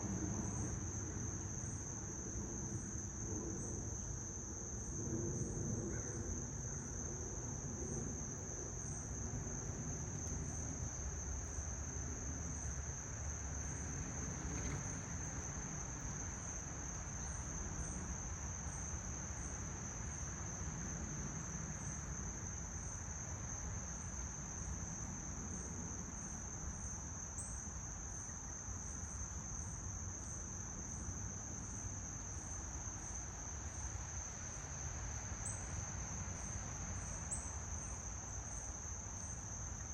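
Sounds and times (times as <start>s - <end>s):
crickets trilling: 0.0s - 39.9s
faint insect chirp: 0.0s - 39.9s.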